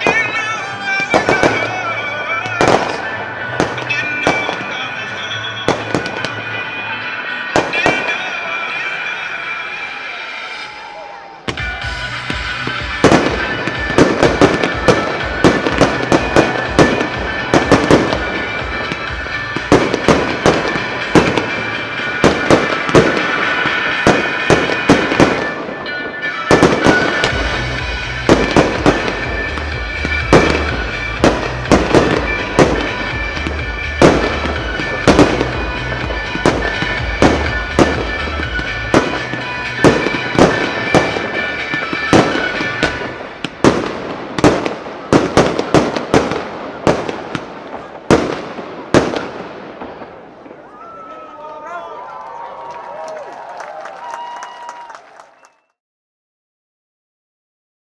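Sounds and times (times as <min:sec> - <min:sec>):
music soundtrack: 0:00.0 - 0:50.0
fireworks bursting: 0:00.0 - 0:50.8.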